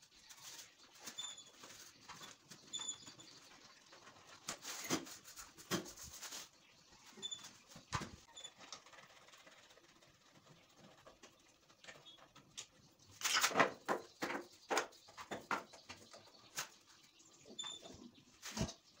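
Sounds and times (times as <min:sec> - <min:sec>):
plastic pipe rubbing and squeaking: 0:00.0 - 0:16.8, 0:17.4 - 0:18.9.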